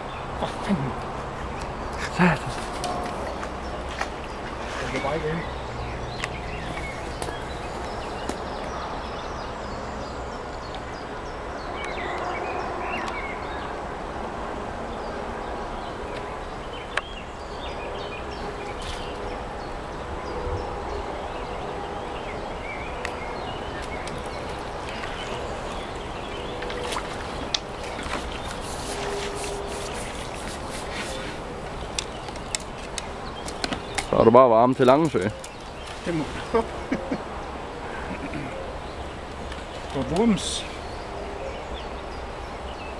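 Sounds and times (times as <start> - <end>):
riverside ambience: 0.0 - 42.9.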